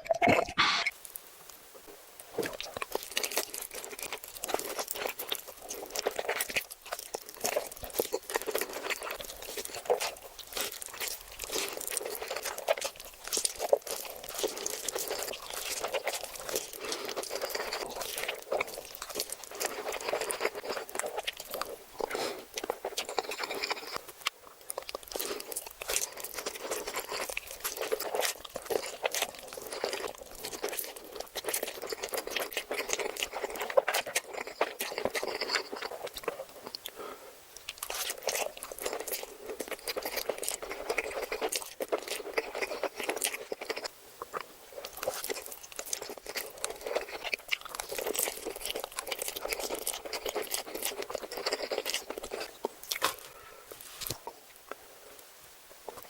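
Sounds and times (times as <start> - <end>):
chewing and crunching: 2.2 - 54.8.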